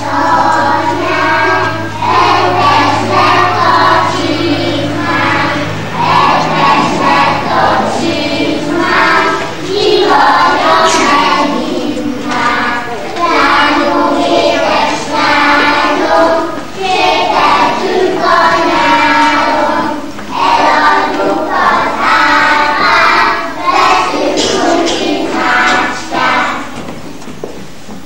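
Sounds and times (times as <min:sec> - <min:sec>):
children singing together: 0:00.0 - 0:27.3.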